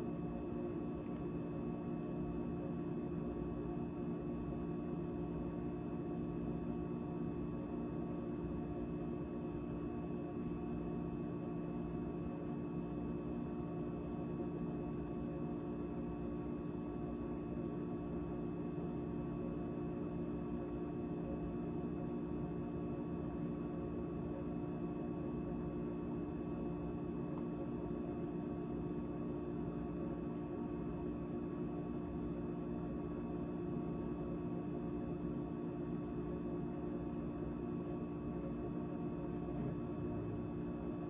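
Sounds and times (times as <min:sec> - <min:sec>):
refrigerator hum: 0:00.0 - 0:41.0.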